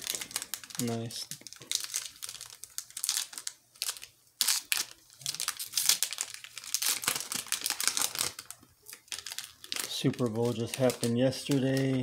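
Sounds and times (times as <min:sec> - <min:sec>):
foil wrapper crinkling: 0:00.0 - 0:12.0
wrapper being torn open: 0:00.0 - 0:12.0.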